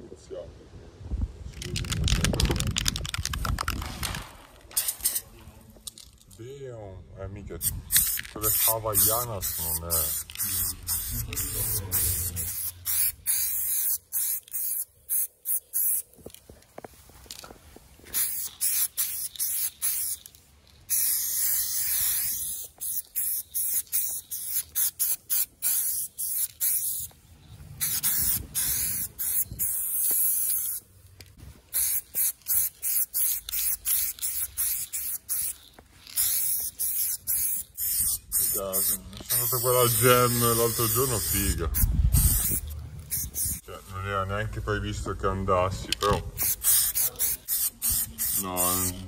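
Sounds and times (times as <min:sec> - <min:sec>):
spray paint can hissing: 0:01.8 - 0:06.0, 0:07.6 - 0:16.4, 0:18.1 - 0:43.7, 0:46.0 - 0:49.0.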